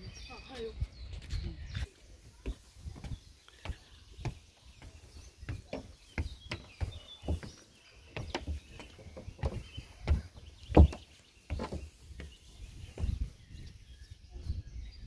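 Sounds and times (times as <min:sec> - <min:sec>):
birds chirping: 0:00.0 - 0:15.0
footsteps on wooden steps: 0:00.4 - 0:13.4.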